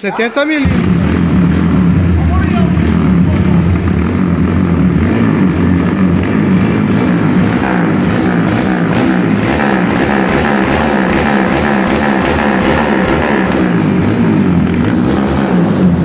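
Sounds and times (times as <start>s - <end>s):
motorcycle engine revving: 0.5s - 16.0s.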